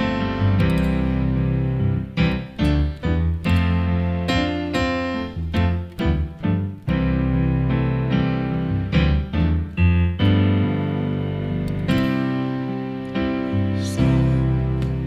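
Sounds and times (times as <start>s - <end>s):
keyboard playing slow piano chords: 0.0s - 15.0s.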